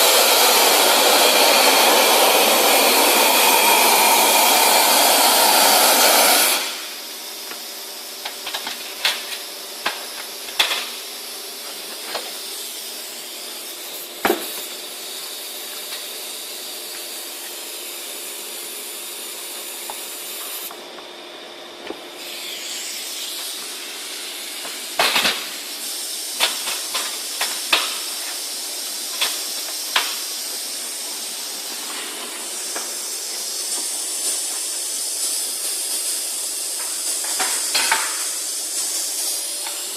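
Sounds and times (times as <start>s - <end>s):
industrial vacuum hissing: 0.0s - 39.9s.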